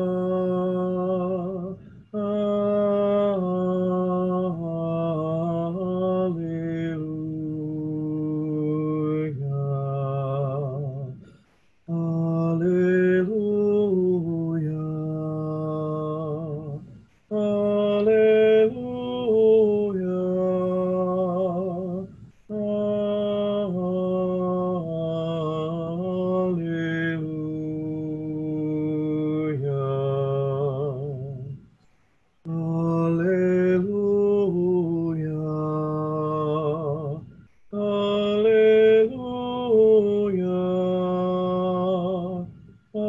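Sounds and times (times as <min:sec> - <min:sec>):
voices singing slow chant: 0:00.0 - 0:43.0.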